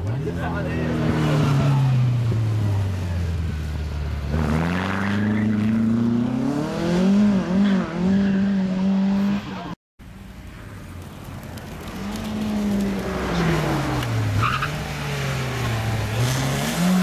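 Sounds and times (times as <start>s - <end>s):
rally car engine revving: 0.0s - 9.8s, 11.9s - 17.0s.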